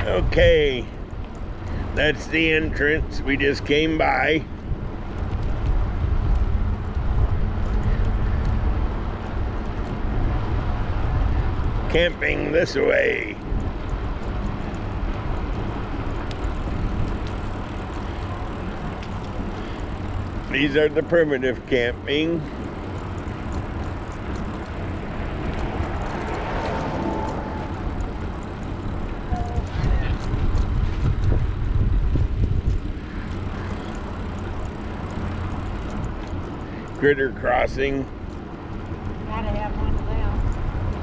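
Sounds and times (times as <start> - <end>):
bicycle tyres rolling: 0.0 - 41.0
wind rushing over microphone: 0.0 - 41.0.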